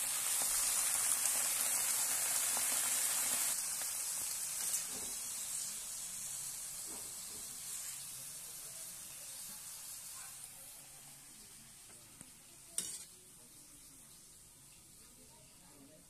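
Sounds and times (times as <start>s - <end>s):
greens sizzling in a wok: 0.0s - 16.0s.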